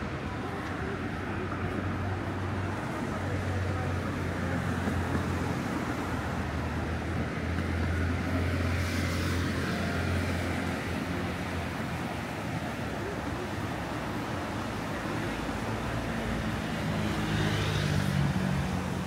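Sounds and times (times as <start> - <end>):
passing cars: 0.0 - 19.0.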